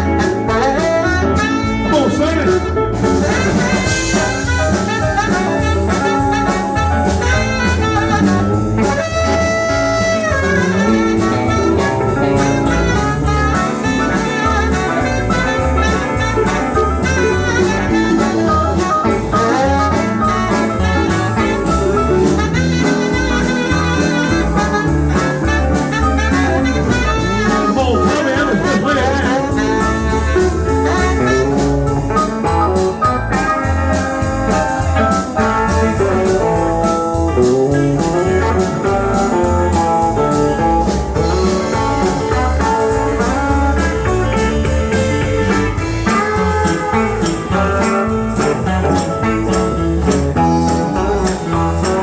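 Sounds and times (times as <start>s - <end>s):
country band instrumental: 0.0s - 52.0s
steady drum beat: 0.0s - 52.0s.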